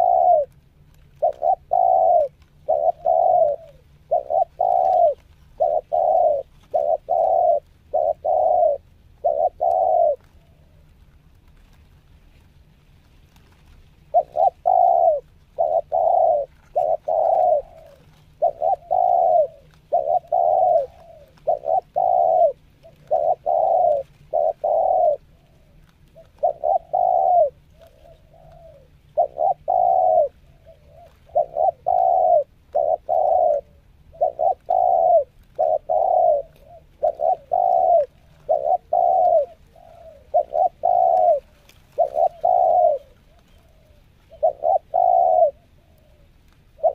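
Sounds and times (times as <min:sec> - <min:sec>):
dove cooing: 0:00.0 - 0:12.5, 0:13.1 - 0:46.9.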